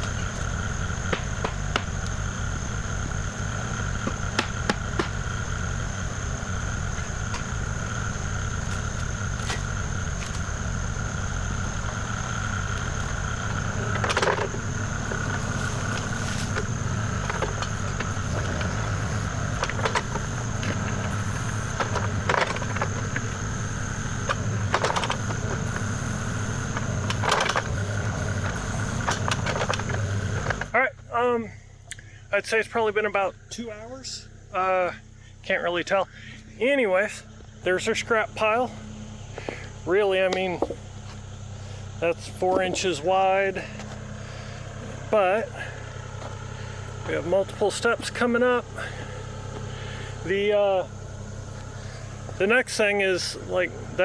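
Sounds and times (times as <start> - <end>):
excavator diesel engine running: 0.0 - 54.0
high whine: 0.0 - 54.0.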